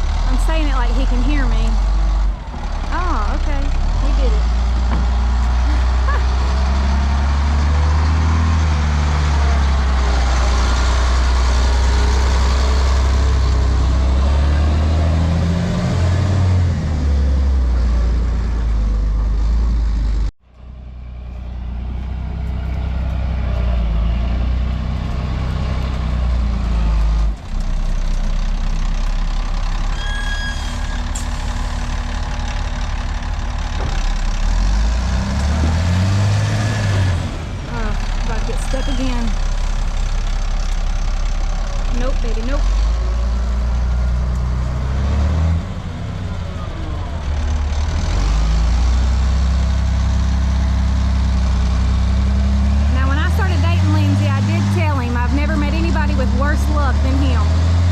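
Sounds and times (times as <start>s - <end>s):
diesel truck engine drone: 0.0s - 57.9s.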